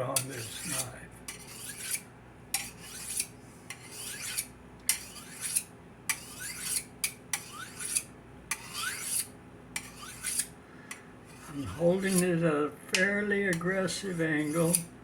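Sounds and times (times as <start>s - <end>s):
knife scraping on sharpener: 0.1s - 12.4s, 13.5s - 14.9s.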